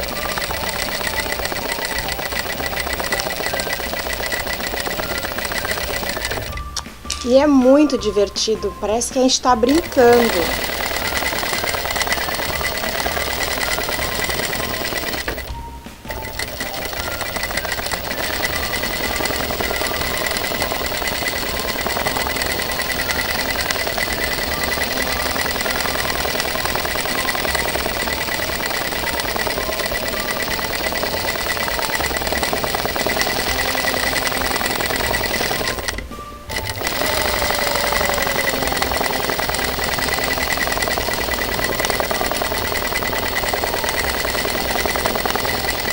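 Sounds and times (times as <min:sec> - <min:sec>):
sewing machine running: 0:00.0 - 0:07.4, 0:09.5 - 0:45.9.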